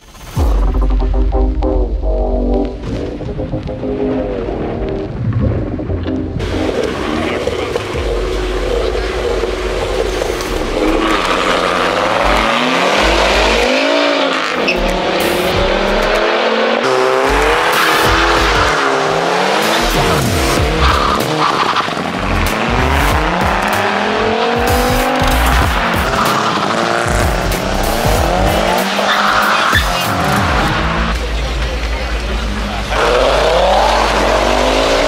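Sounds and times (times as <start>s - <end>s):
racing car engines revving: 6.4s - 35.0s.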